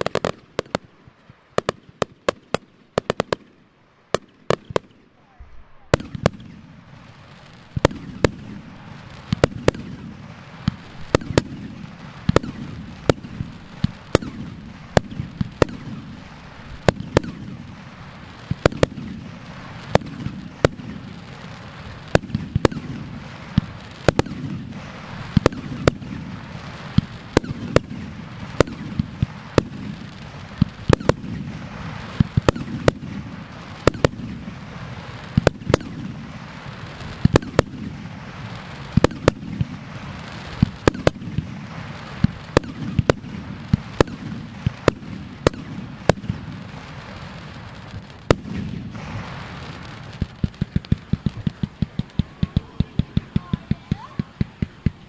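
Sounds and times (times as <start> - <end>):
firework shells bursting: 4.2 - 55.0.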